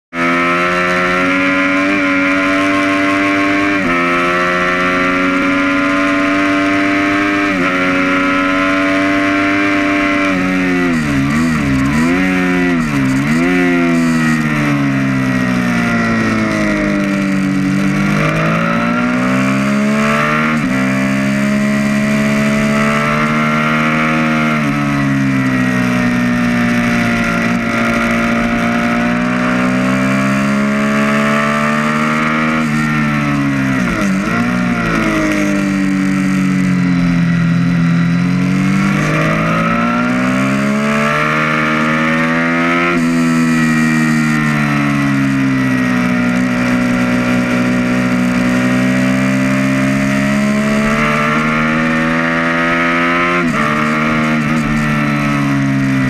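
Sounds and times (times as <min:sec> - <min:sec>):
motorcycle engine revving: 0:00.1 - 0:56.0.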